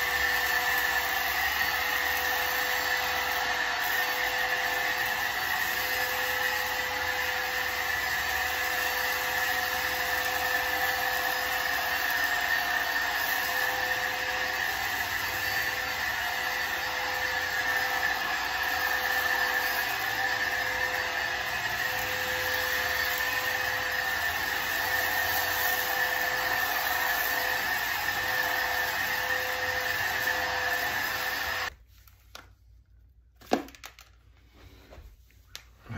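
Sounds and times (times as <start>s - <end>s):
cordless vacuum whining: 0.0s - 31.8s.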